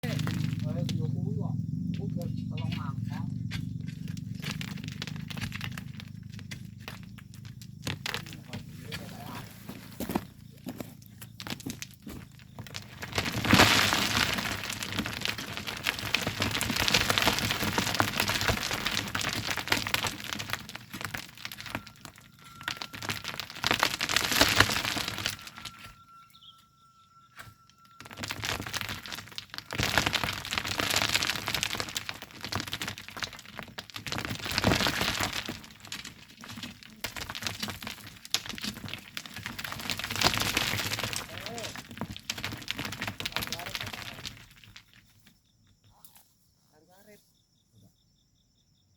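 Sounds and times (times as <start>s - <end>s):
gritty crunching of sand and gravel: 0.0s - 45.4s.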